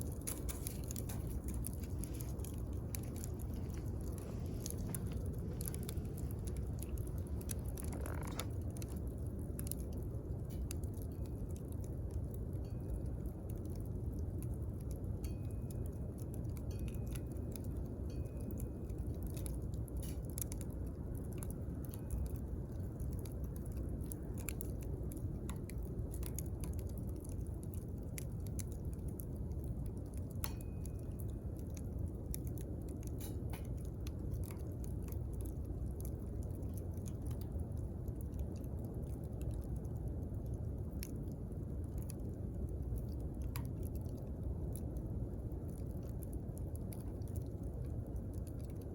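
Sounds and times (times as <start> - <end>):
campfire crackling and popping: 0.0 - 48.9
low rumble of flames: 0.0 - 48.9.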